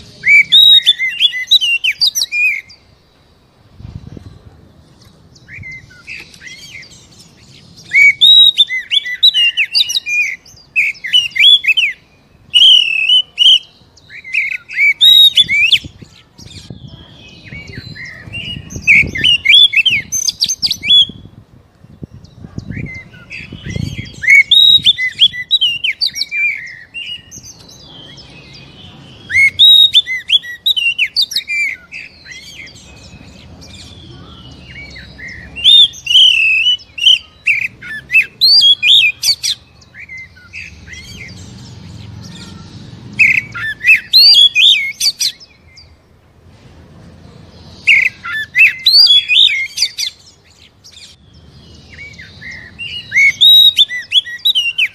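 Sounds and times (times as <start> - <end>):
magpie-robin singing: 0.0 - 46.2, 47.4 - 54.9.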